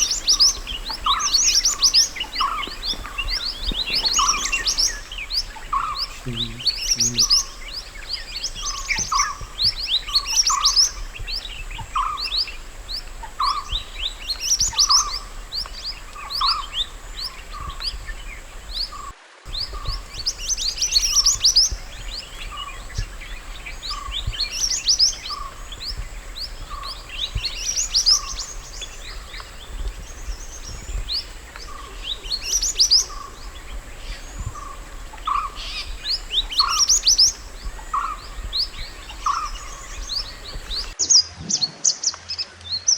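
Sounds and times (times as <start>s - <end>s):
bird chirping song: 0.0s - 41.0s.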